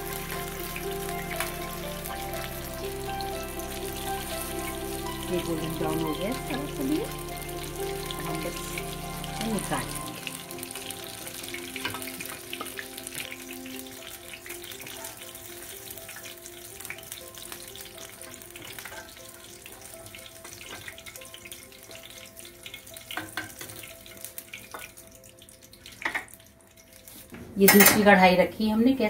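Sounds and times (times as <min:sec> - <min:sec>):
cheese cubes sizzling in oil: 0:00.0 - 0:29.0.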